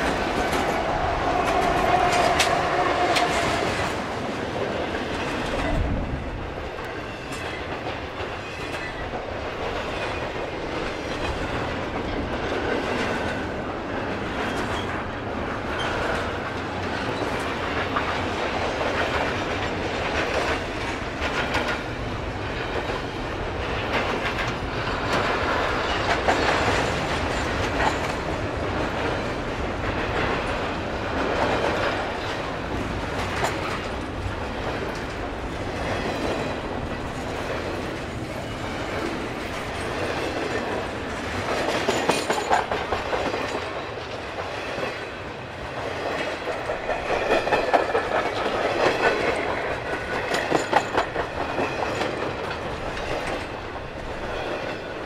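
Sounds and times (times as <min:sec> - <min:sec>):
freight train rumbling: 0:00.0 - 0:55.0
wheels clicking over rail joints: 0:00.0 - 0:55.0.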